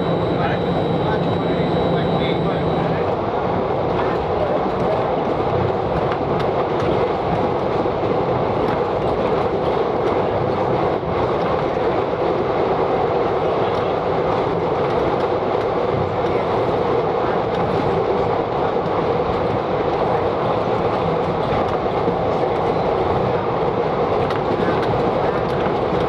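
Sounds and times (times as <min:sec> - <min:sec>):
railcar running on track: 0:00.0 - 0:26.0.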